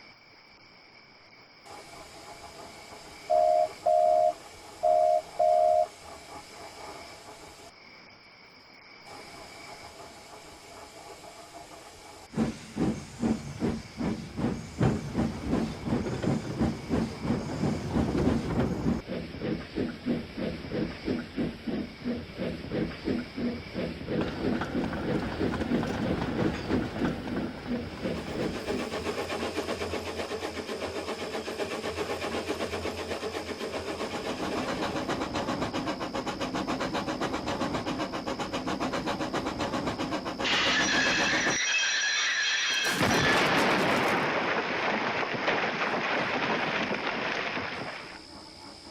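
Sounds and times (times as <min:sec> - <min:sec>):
crickets chirping: 0:00.0 - 0:48.9
steam locomotive chuffing: 0:01.6 - 0:07.7, 0:09.1 - 0:44.4, 0:48.0 - 0:48.9.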